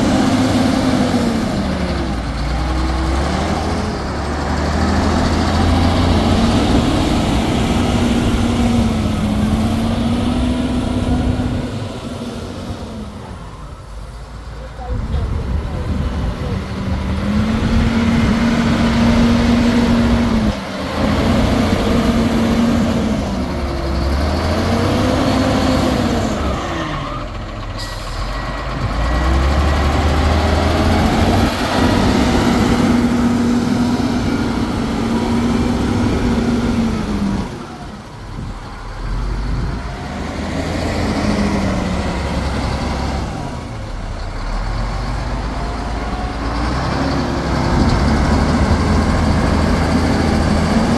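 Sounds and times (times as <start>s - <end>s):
diesel engine revving: 0.0s - 50.9s.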